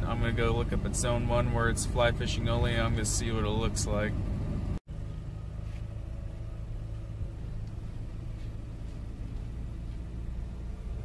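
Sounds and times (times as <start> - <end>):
car engine hum: 0.0 - 11.0
road rumble: 0.0 - 11.0.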